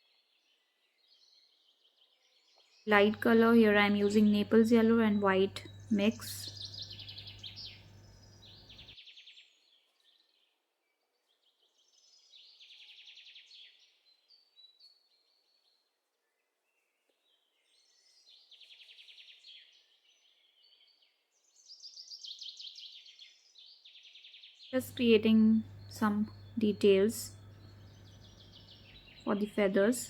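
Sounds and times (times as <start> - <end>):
small birds chirping and trilling: 0.0 - 30.0.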